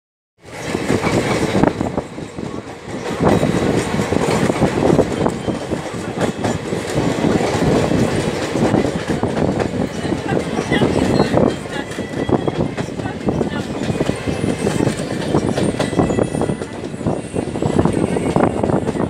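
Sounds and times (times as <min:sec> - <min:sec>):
clicks and knocks of train: 0:00.4 - 0:19.0
train wheels rumbling on rails: 0:00.4 - 0:19.0.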